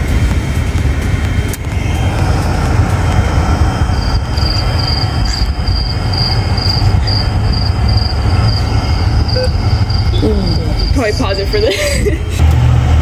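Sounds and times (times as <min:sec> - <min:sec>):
pulsing high-pitched tone: 0:00.0 - 0:11.6
wind buffeting microphone: 0:00.0 - 0:12.4.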